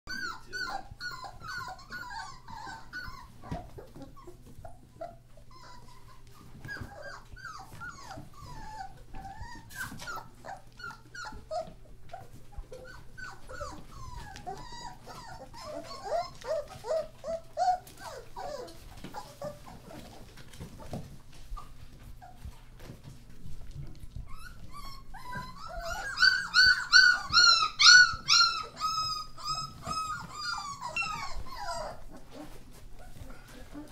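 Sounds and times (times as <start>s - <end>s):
puppies whining: 0.1s - 33.9s.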